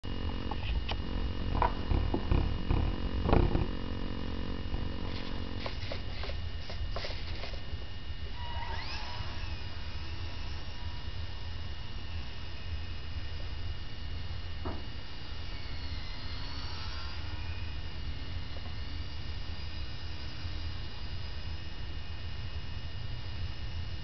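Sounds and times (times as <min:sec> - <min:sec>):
electric motor whine: 0:00.0 - 0:24.0
low steady hum: 0:00.0 - 0:24.0.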